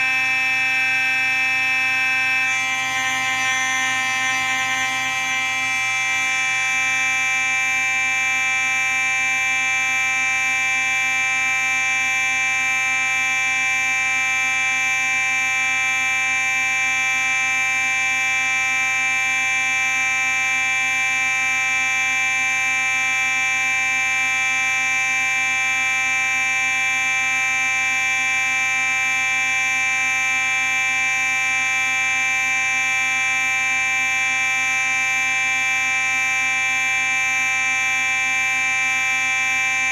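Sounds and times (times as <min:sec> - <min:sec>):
fire alarm buzzing tone: 0:00.0 - 0:39.9.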